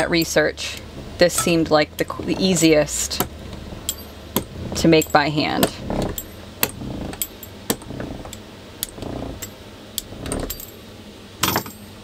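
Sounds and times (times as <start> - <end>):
pastry wheel rolling scrape: 1.0 - 10.8.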